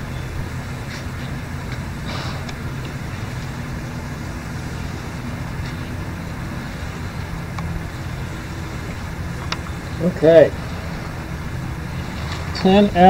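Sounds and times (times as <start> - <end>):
motor rumbling: 0.0 - 13.0.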